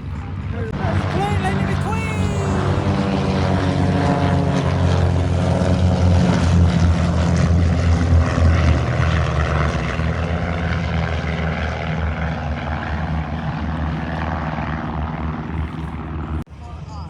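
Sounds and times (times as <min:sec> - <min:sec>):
aircraft engine and propeller drone: 0:00.0 - 0:17.0.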